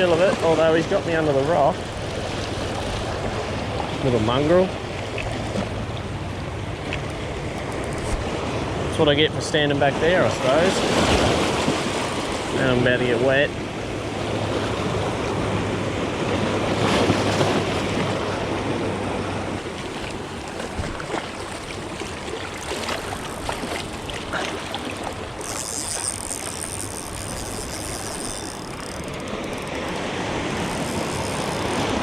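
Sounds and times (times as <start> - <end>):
surf washing over rocks: 0.0 - 7.5, 8.1 - 32.0.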